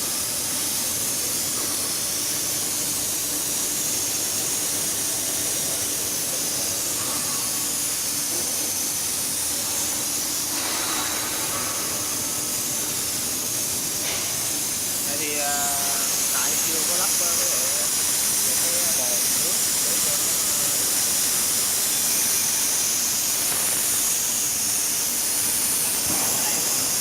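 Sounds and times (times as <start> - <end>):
spray nozzle hissing: 0.0 - 27.0.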